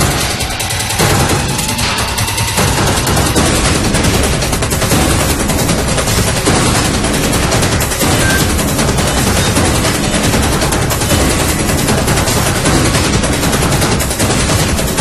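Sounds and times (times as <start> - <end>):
suspense music with rattling percussion: 0.0 - 15.0.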